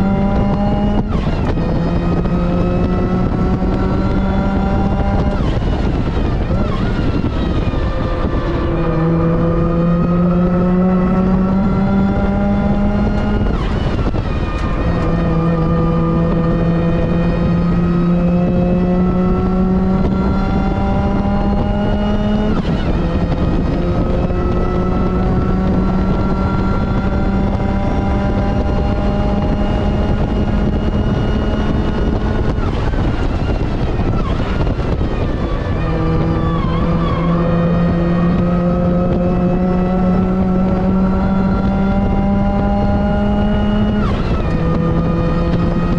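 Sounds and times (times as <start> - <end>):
car engine pulling hard: 0.0 - 45.9.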